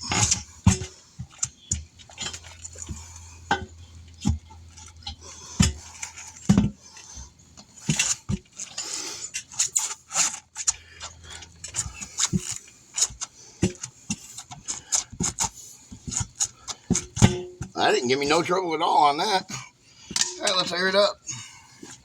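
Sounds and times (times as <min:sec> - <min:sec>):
tire spoons clanking on wheel rim: 0:00.0 - 0:22.0.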